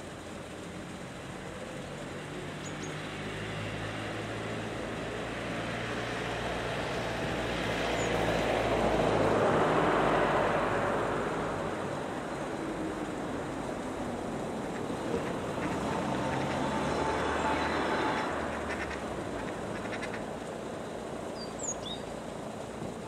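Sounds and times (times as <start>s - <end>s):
vehicle passing: 2.4s - 21.3s.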